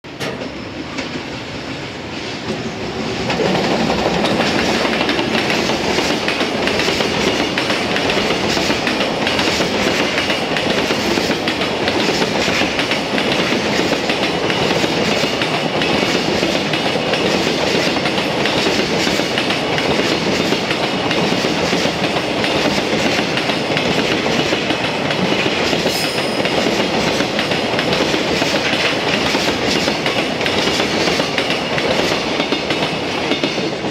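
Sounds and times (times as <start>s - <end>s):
freight train wheels clattering: 0.0s - 33.9s.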